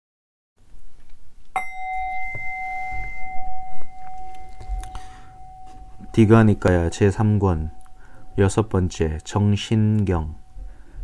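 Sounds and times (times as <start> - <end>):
singing bowl ringing: 1.6 - 11.0.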